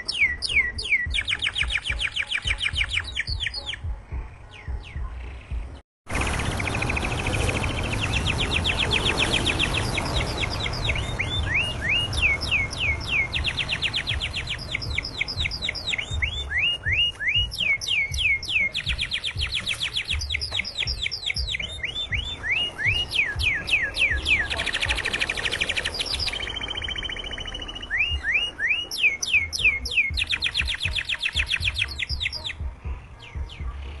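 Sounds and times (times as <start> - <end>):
canary singing trills: 0.0 - 34.0.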